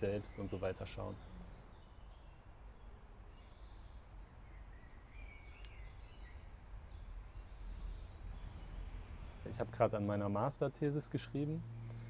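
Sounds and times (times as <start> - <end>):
songbird singing downward notes: 0.0 - 10.0
faint low outdoor rumble: 0.0 - 12.0.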